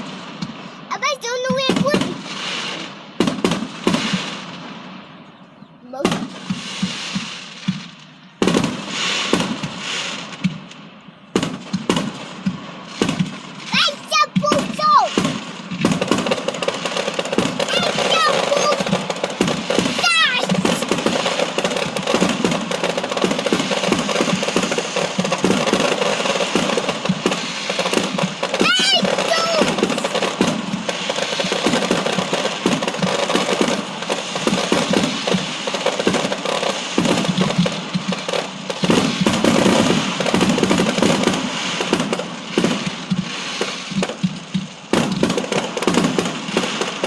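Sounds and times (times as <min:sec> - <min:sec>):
fireworks crackling and popping: 0:00.0 - 0:05.2, 0:05.8 - 0:47.0
firework bangs: 0:00.0 - 0:47.0.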